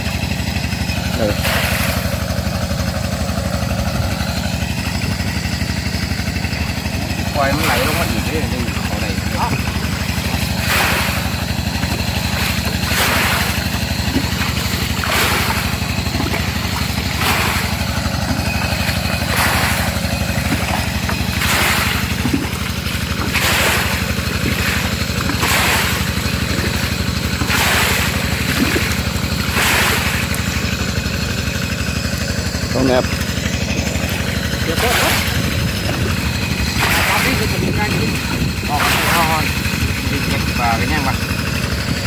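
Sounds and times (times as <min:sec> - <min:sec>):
small engine running: 0:00.0 - 0:42.0
mud sloshing into sieve: 0:00.1 - 0:42.0.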